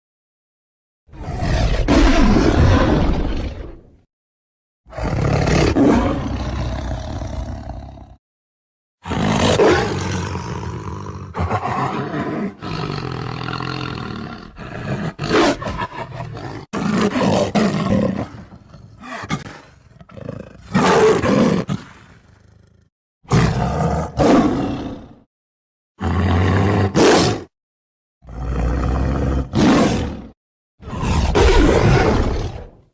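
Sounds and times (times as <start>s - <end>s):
tiger roaring and growling: 1.1s - 4.0s, 4.9s - 8.2s, 9.0s - 25.3s, 26.0s - 27.5s, 28.2s - 32.9s.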